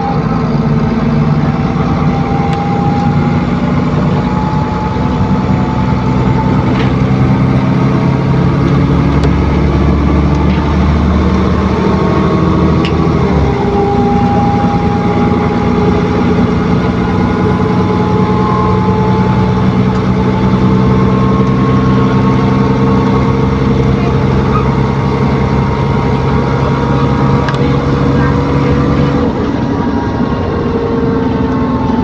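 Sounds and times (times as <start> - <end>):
bus engine drone: 0.0 - 32.0
cooling fan whine: 0.0 - 32.0.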